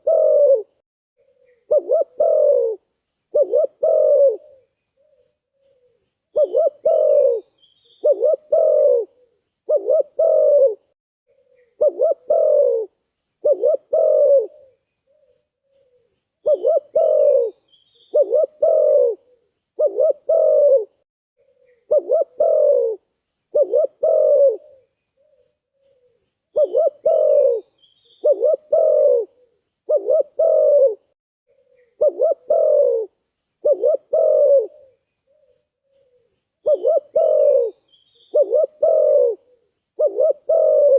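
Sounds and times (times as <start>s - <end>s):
dove cooing: 0.0s - 40.9s
small bird chirping: 1.2s - 10.7s, 11.3s - 30.9s, 31.5s - 40.9s.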